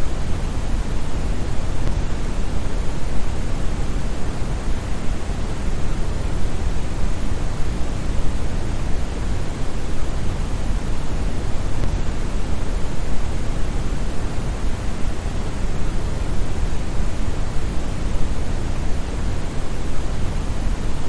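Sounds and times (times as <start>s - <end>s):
brown noise hiss: 0.0s - 21.0s.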